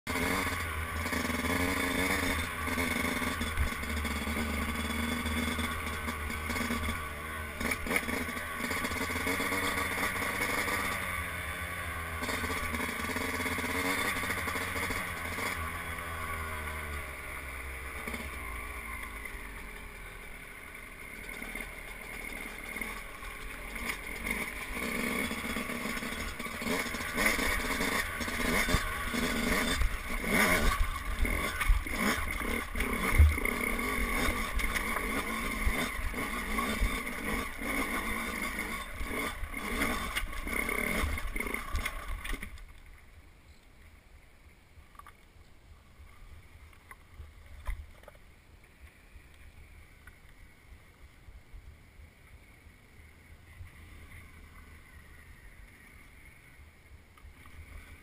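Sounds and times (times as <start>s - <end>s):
two-stroke dirt bike engine: 0.1s - 43.3s, 51.9s - 58.0s.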